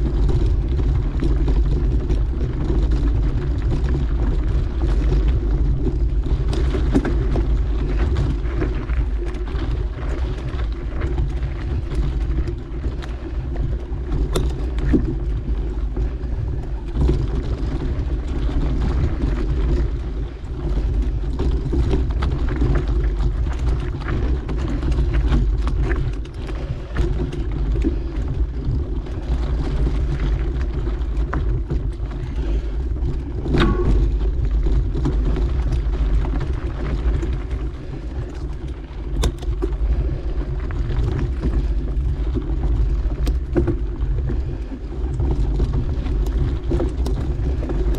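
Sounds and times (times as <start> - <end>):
bike clicks and rattles: 0.0 - 47.9
bike tyres rolling on dirt: 0.0 - 47.9
wind buffeting microphone: 0.0 - 47.9.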